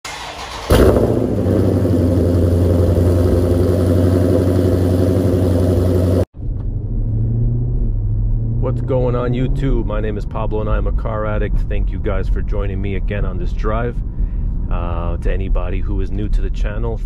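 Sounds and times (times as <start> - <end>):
car engine starting and idling: 0.0 - 16.8
quiet steady engine hum: 0.6 - 17.0.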